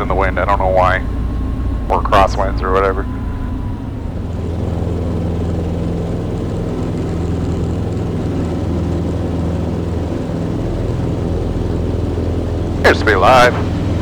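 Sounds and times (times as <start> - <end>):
light aircraft engine and propeller: 0.0 - 14.0.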